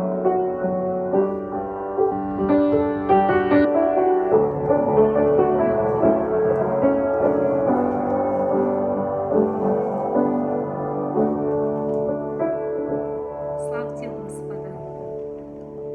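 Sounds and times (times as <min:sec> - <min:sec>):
piano playing slow chords: 0:00.0 - 0:15.9.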